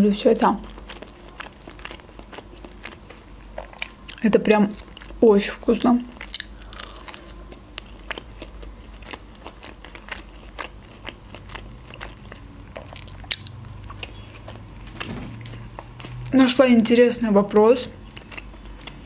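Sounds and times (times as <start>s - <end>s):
biting and chewing crunchy food: 0.4s - 19.0s.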